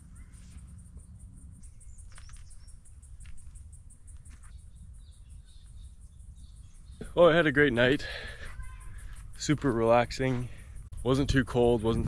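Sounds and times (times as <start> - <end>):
bird chirps: 0.0 - 12.0
insects chirping: 0.0 - 12.0.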